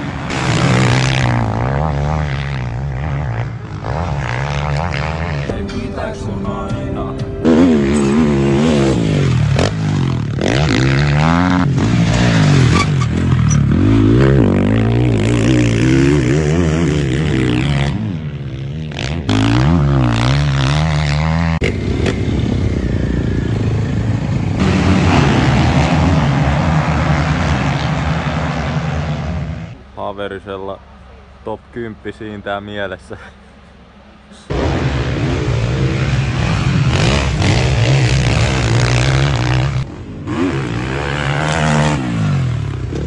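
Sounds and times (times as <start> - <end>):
motocross bike engines revving: 0.0 - 43.0.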